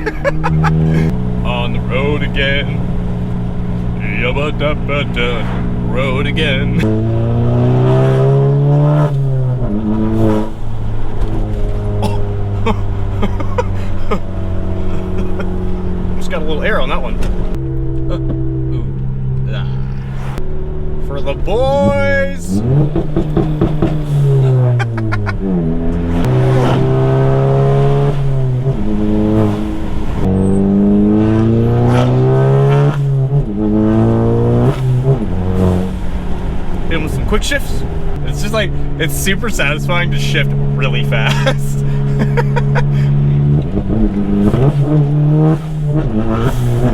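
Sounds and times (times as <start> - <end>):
car engine revving and shifting: 0.0 - 46.9
exhaust pops: 0.0 - 46.9.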